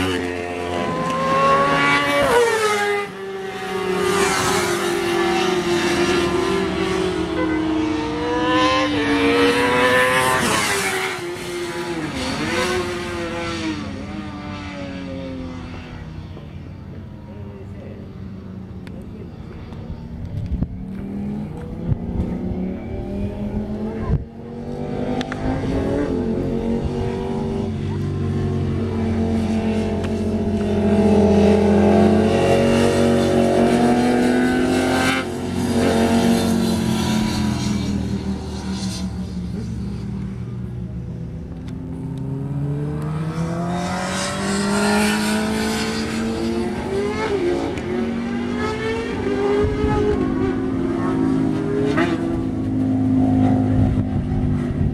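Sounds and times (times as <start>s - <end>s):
motorcycle engines revving hard: 0.0s - 16.5s, 20.7s - 54.9s.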